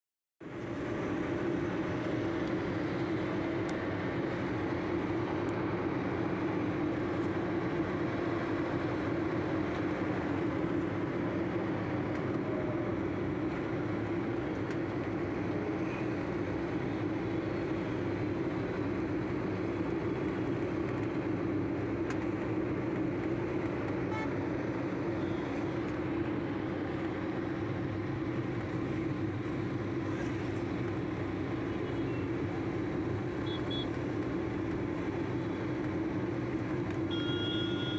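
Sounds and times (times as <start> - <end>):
vehicle engine and road noise: 0.4 - 37.9.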